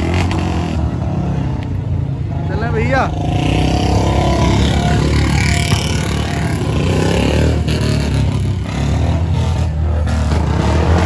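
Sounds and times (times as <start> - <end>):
motorcycle engine: 0.0 - 11.0
tractor engine: 0.0 - 11.0.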